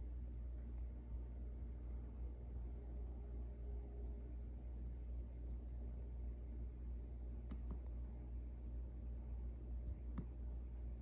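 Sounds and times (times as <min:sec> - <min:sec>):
faint low equipment hum: 0:00.0 - 0:11.0.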